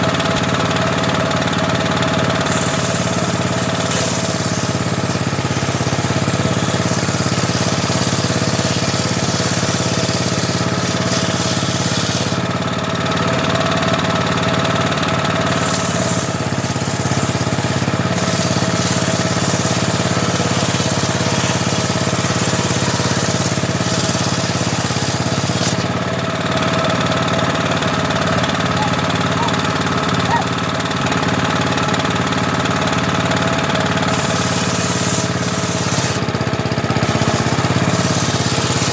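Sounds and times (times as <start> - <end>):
table saw drone: 1.4 - 12.5, 13.3 - 38.9
saw cutting wood hiss: 1.5 - 12.7, 13.4 - 38.9.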